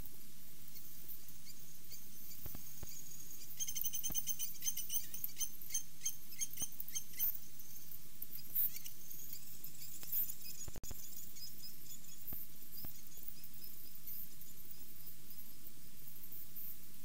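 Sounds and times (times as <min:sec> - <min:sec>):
small bird chirping: 0:00.0 - 0:17.0
steady microphone hiss: 0:00.0 - 0:17.0.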